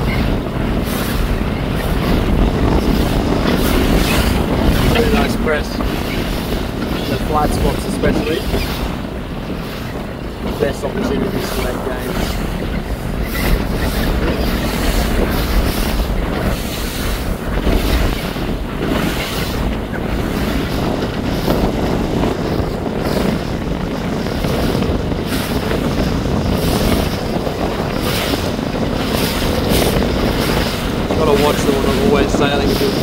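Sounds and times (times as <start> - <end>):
water splashing along hull: 0.0 - 33.0
wind buffeting microphone: 0.0 - 33.0.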